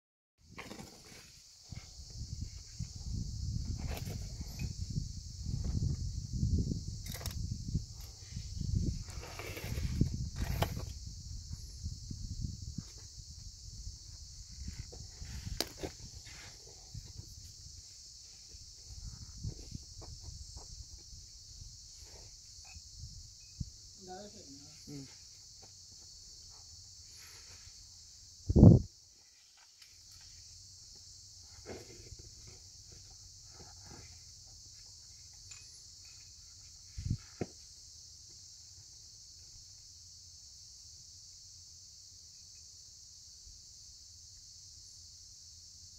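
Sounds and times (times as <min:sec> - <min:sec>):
high-pitched insect chorus: 0:00.4 - 0:45.9.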